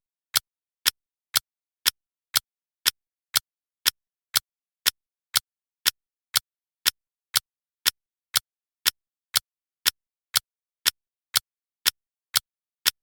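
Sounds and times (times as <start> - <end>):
clock ticking: 0.0 - 13.0.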